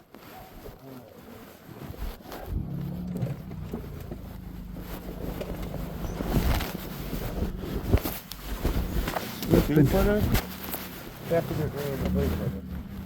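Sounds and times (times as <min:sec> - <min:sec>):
knocks and rustles: 0:01.8 - 0:13.0
engine droning: 0:02.4 - 0:13.0.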